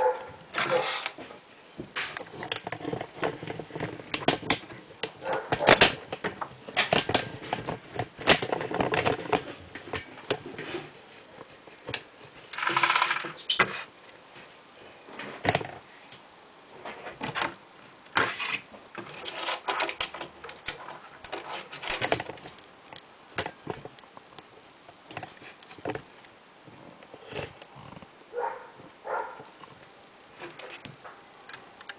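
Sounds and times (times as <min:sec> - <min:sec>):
rustling: 0:00.0 - 0:31.9.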